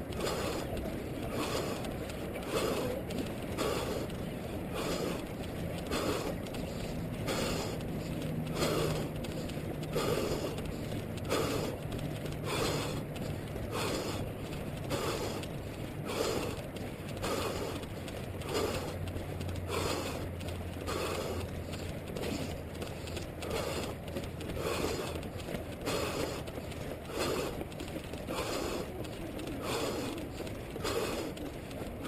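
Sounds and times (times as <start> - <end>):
heavy breathing: 0.0 - 32.0
running footfalls: 0.0 - 32.0.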